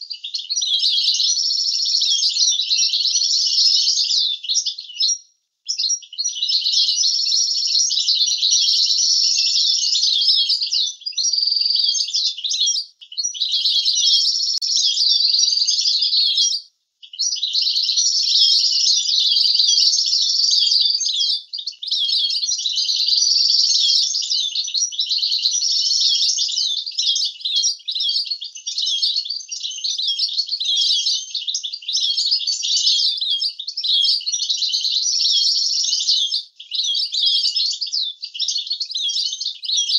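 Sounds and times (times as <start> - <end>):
goldfinch twittering song: 0.1 - 39.9.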